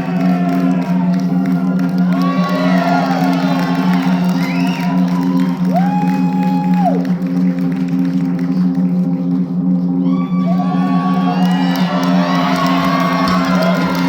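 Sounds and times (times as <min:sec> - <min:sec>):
low drone: 0:00.0 - 0:14.0.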